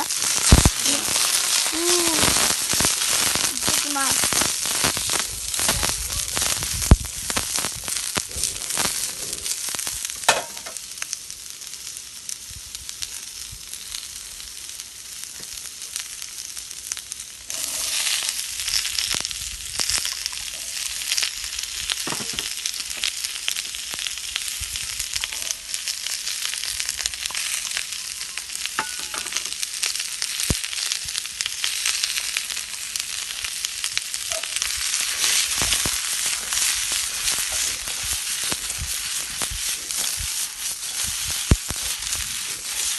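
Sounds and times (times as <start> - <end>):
food sizzling in a pan: 0.0 - 42.9.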